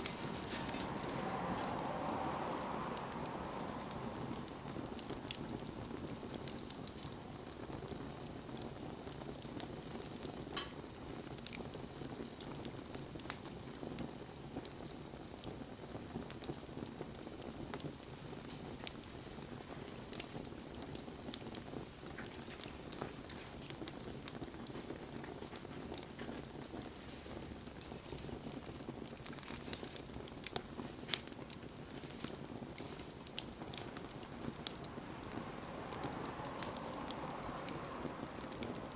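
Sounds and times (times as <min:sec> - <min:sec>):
fire crackling and popping: 0:00.0 - 0:38.9
wood fire burning: 0:00.0 - 0:38.9.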